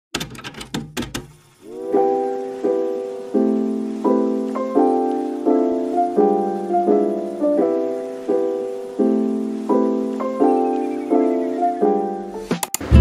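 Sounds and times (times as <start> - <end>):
piano chords: 1.6 - 13.0.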